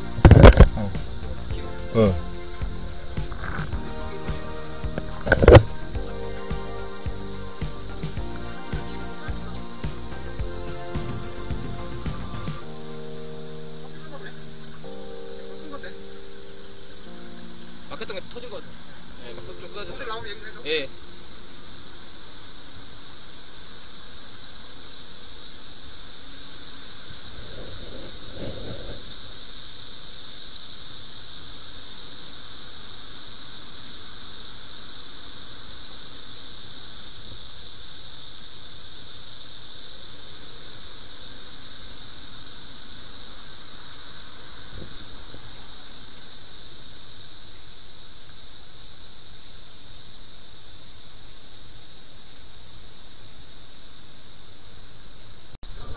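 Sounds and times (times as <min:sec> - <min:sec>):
high-pressure water hose hissing: 0:00.0 - 0:54.6.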